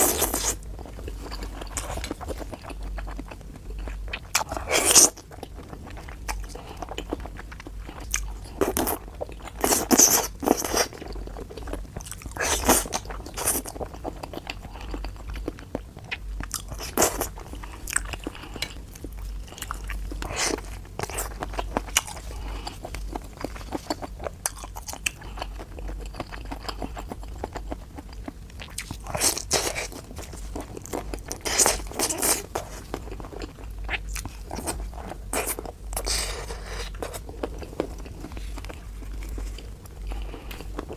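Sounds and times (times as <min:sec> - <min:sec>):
chewing: 0:00.0 - 0:40.9
seafood crunching: 0:00.0 - 0:40.9.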